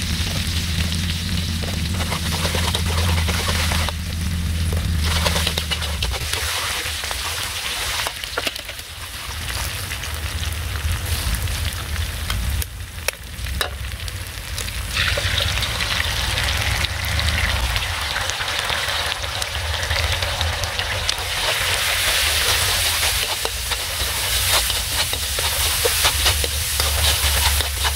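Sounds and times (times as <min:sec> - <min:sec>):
food sizzling in hot oil: 0:00.0 - 0:27.9.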